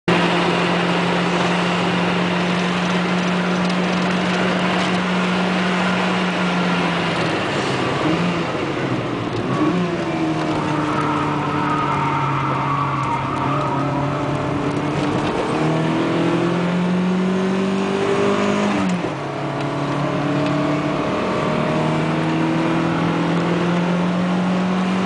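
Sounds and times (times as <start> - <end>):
car engine pulling hard: 0.1 - 25.0.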